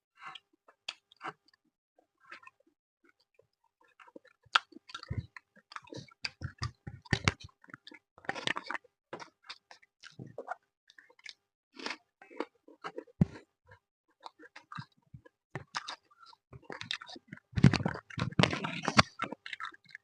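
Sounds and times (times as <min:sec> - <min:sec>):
person chewing food: 0:00.2 - 0:01.6, 0:02.2 - 0:20.0.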